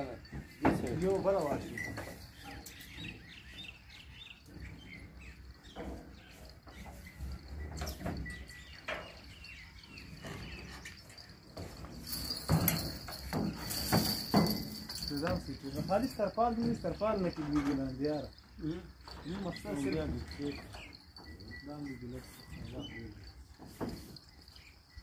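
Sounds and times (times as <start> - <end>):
high-pitched insect trill: 0.0 - 25.0
small birds chirping: 0.0 - 25.0.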